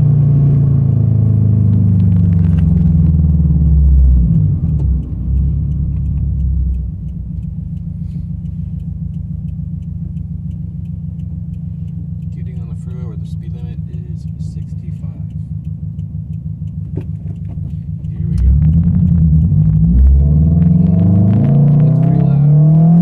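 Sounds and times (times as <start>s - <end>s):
car exhaust engine drone: 0.0s - 23.0s
light regular ticking: 2.0s - 23.0s.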